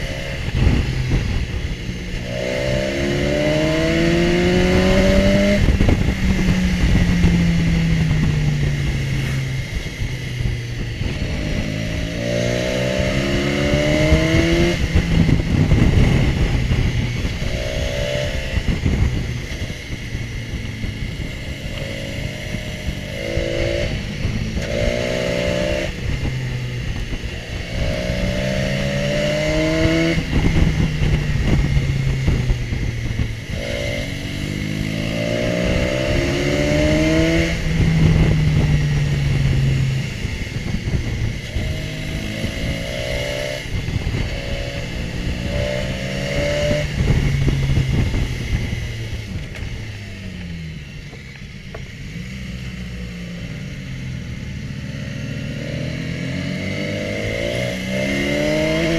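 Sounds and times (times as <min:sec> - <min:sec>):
motorcycle engine accelerating: 0:00.0 - 0:58.9
wind and road noise: 0:00.0 - 0:58.9.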